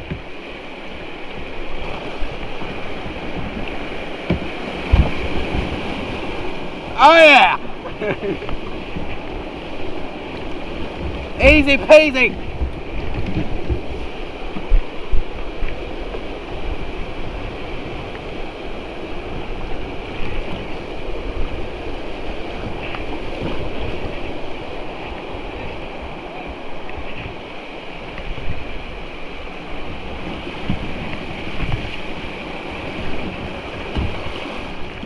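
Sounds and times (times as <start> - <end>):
creek rapids rushing: 0.0 - 35.0
wind buffeting microphone: 0.0 - 35.0.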